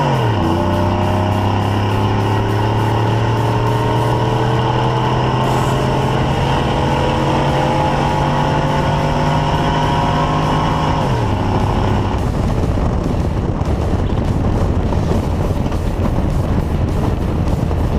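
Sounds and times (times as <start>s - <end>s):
road and wind rush: 0.0s - 17.9s
truck engine accelerating: 0.0s - 17.9s.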